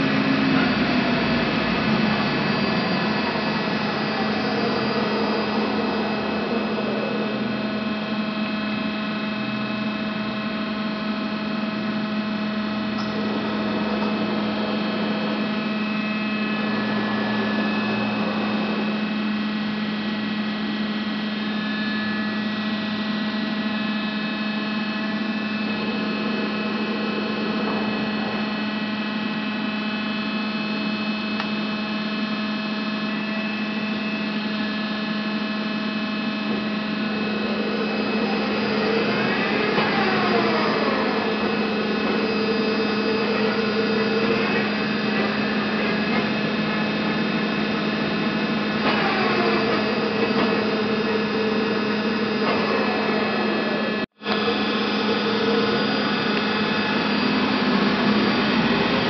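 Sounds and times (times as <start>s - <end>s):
falling whine of chuck: 0.0s - 59.0s
lathe electric hum: 0.0s - 59.0s.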